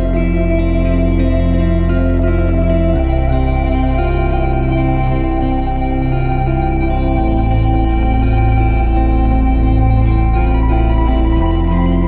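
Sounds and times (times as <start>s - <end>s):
guitar with echo: 0.0s - 12.0s
low bass: 0.0s - 12.0s.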